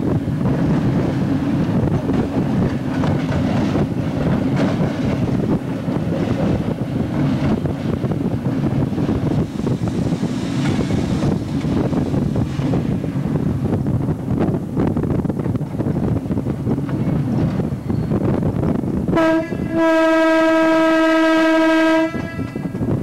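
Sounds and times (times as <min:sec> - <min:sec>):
train rumble: 0:00.0 - 0:23.0
wind buffeting microphone: 0:00.0 - 0:23.0.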